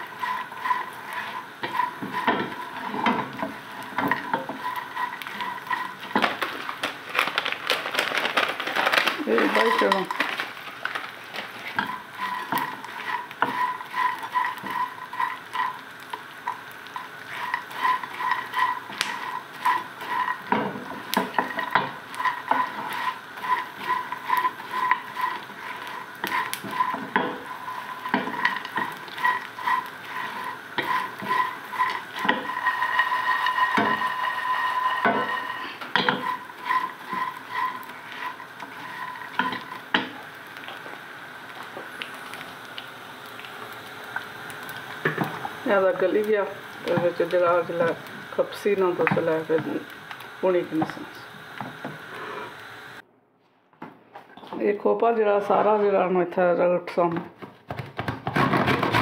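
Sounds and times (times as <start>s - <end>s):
food sizzling: 0.0s - 53.0s
spatula scraping frying pan: 0.0s - 53.0s.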